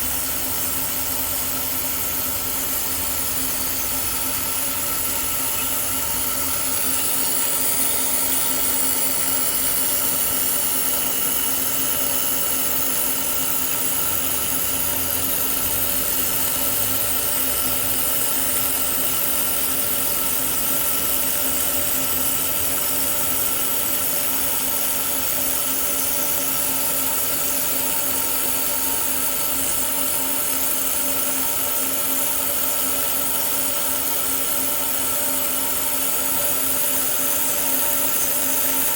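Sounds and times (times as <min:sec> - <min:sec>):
welding machine humming: 0:00.0 - 0:38.9.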